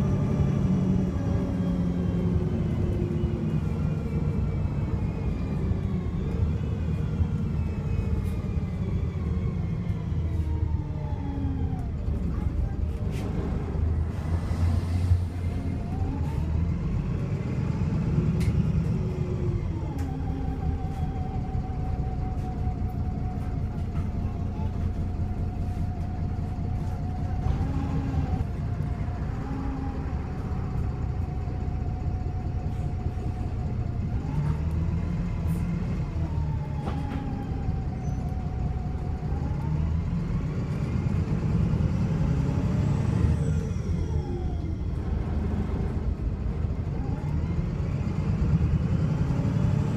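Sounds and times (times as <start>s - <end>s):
misfiring bus diesel engine: 0.0s - 49.9s.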